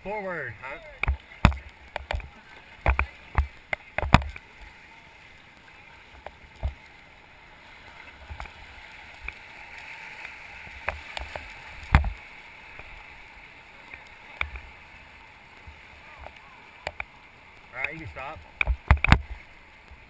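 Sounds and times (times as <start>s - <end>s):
paddles splashing and knocking: 0.0s - 20.0s
rushing river water: 0.0s - 20.0s.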